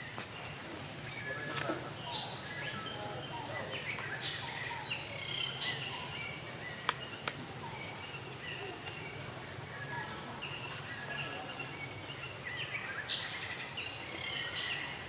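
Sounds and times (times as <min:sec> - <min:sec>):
outdoor background noise: 0:00.0 - 0:15.0
rustle: 0:00.0 - 0:15.0.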